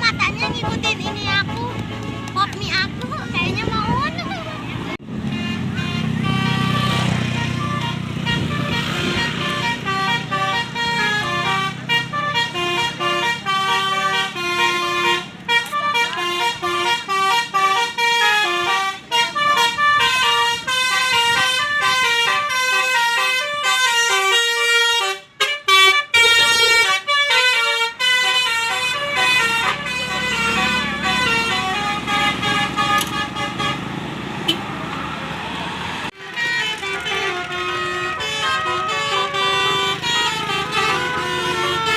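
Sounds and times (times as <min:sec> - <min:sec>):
bus engine rumbling: 0:00.0 - 0:41.9
multi-tone air horns playing tune: 0:05.3 - 0:33.9, 0:36.1 - 0:41.9.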